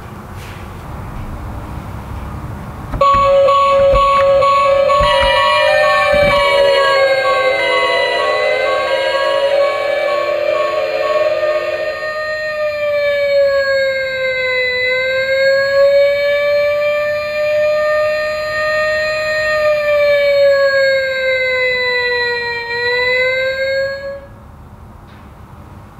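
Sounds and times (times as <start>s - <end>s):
toy fire engine siren wailing: 3.0s - 24.4s.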